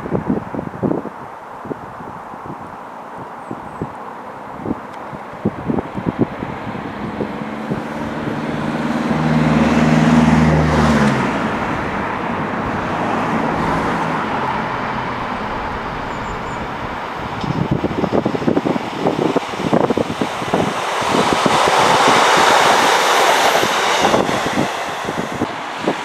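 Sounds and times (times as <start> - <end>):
rumble of train running by: 0.0 - 26.0
wind buffeting microphone: 0.0 - 26.0
diesel locomotive engine: 1.5 - 26.0.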